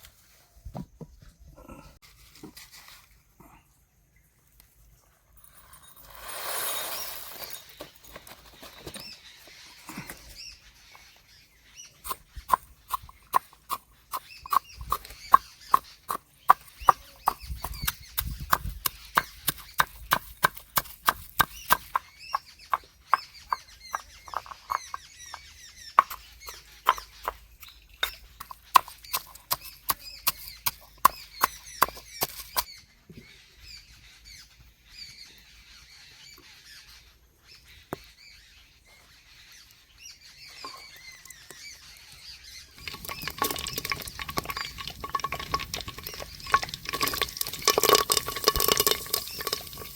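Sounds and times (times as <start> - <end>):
birds chirping: 6.6 - 49.9.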